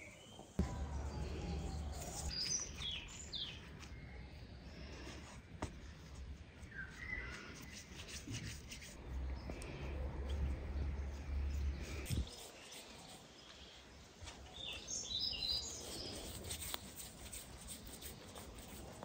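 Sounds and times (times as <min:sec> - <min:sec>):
small birds chirping: 0:00.0 - 0:05.2, 0:06.4 - 0:16.9.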